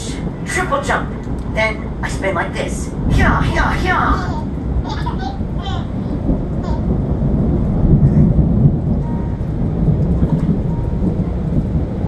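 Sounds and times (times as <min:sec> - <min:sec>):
light rain hiss: 0:00.0 - 0:12.0
thunder rumbling: 0:00.0 - 0:12.0.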